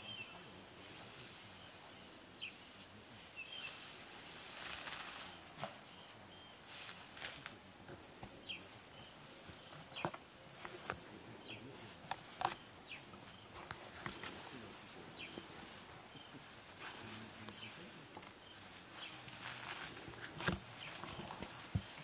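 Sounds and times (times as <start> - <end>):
faint bird chirps: 0.0 - 4.0, 4.6 - 22.0
leaves rustling: 0.0 - 22.0.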